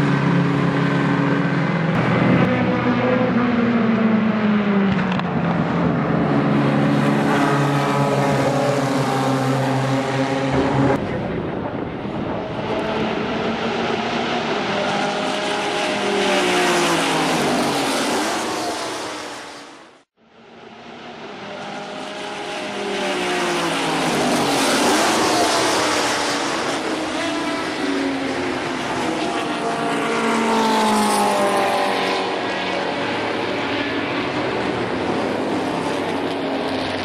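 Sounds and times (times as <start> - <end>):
several racing cars passing: 0.0 - 37.0.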